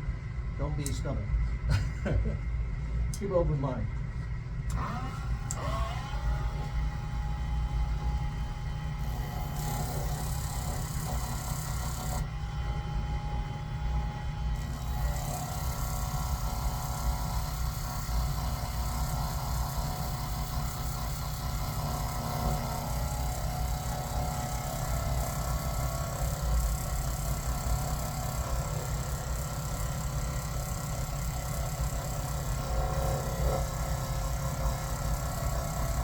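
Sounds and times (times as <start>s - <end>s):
machine motor hum: 4.6s - 36.0s.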